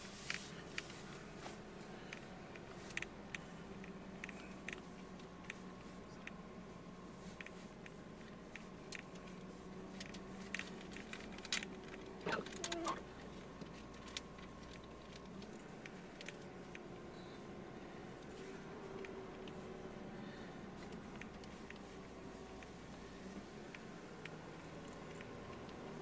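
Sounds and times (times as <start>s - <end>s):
faint car engine hum: 0.0s - 26.0s
light ticks: 2.0s - 17.4s, 18.1s - 20.0s, 20.8s - 26.0s.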